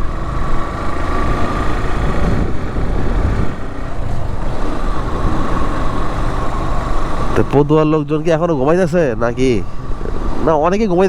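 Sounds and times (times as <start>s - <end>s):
motorcycle engine running: 0.0s - 11.0s
road noise: 0.0s - 11.0s
steady whining tone: 0.0s - 11.0s.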